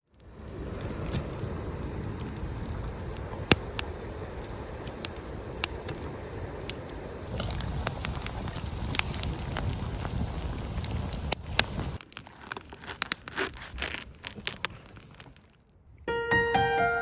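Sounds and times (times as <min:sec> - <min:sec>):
campfire burning with pops: 0:00.0 - 0:15.6.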